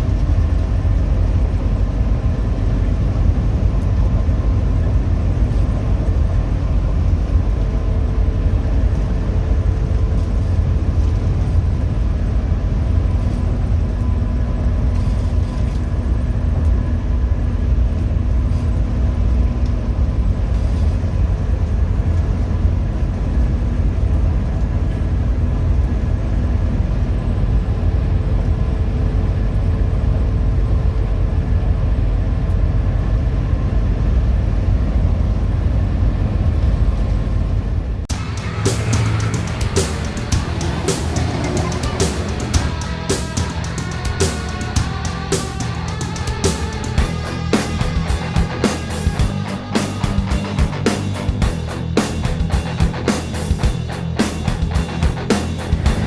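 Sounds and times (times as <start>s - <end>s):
coach engine and road rumble: 0.0s - 56.0s.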